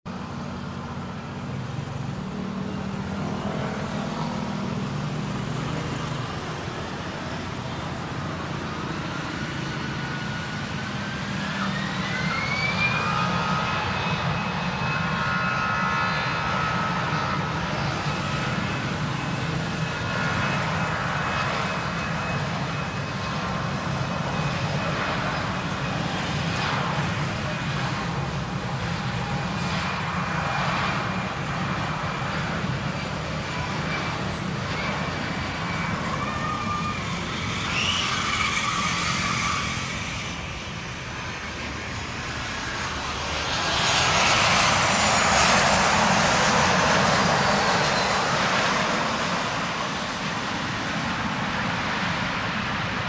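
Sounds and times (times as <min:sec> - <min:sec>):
jet engine whine: 0:00.0 - 0:53.0.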